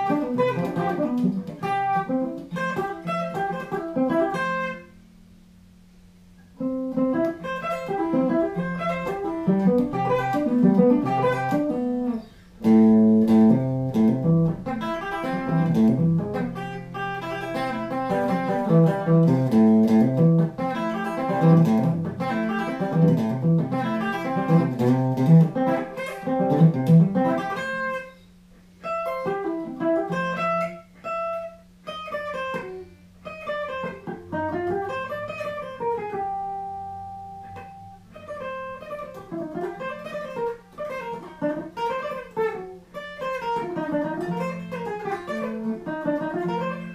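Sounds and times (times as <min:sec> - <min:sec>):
electric guitar riffs: 0:00.0 - 0:05.3, 0:06.1 - 0:46.9.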